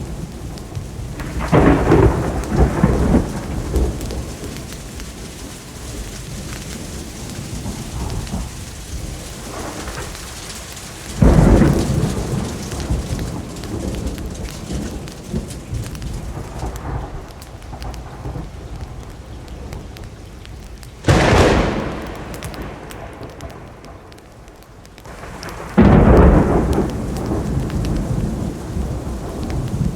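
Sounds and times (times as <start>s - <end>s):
steady rainfall: 0.0s - 29.9s
thunder claps: 0.0s - 29.9s.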